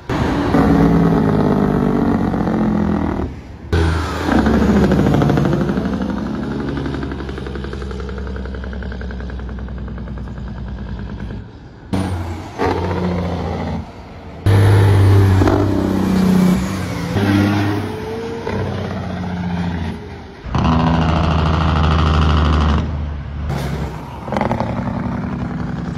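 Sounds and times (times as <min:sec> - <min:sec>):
diesel truck engines driving past: 0:00.0 - 0:25.9.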